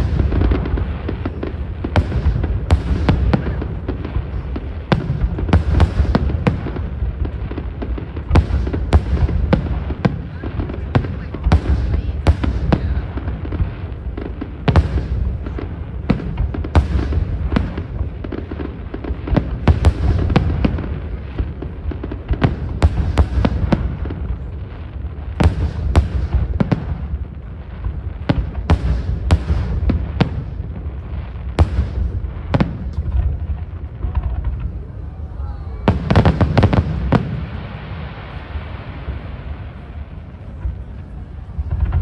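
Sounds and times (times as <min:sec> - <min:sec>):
fireworks exploding: 0:00.0 - 0:42.0.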